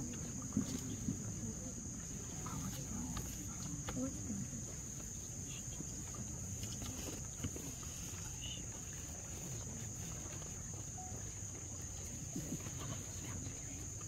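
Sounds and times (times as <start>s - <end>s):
insects droning: 0.0s - 14.0s
low background murmur: 0.0s - 14.0s.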